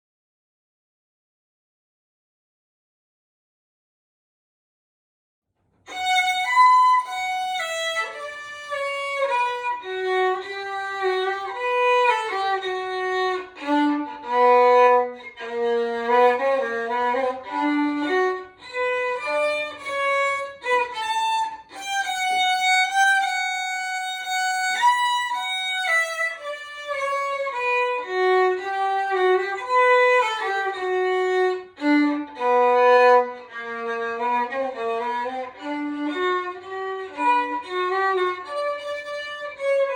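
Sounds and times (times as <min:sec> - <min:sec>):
solo violin melody: 0:05.8 - 0:39.9.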